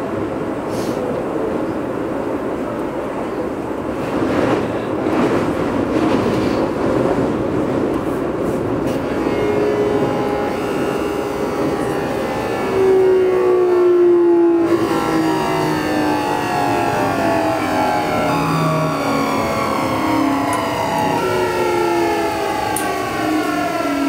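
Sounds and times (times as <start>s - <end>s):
electric train running rumble: 0.0s - 24.0s.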